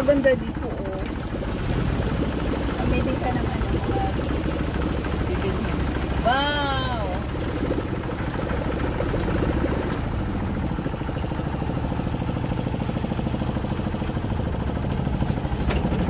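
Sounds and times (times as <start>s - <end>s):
boat engine pulsing hum: 0.0s - 16.0s.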